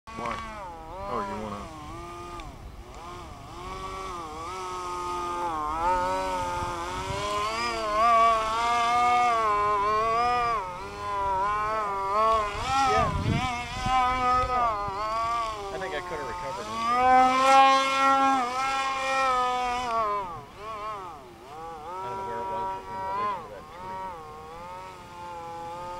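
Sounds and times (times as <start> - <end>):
model plane motor buzzing: 0.1 - 25.9.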